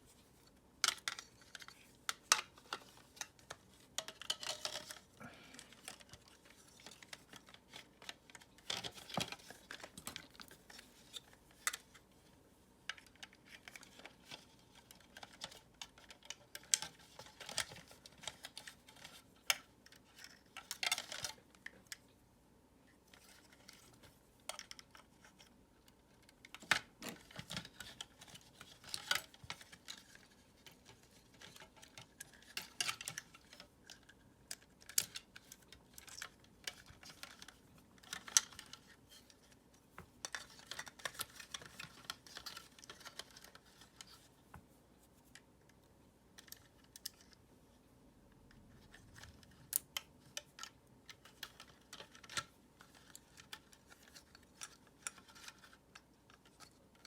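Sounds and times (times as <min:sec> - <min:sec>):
plastic parts clicking and clacking: 0:00.8 - 0:12.1, 0:12.9 - 0:22.1, 0:23.1 - 0:44.3, 0:45.2 - 0:47.4, 0:48.5 - 0:57.0.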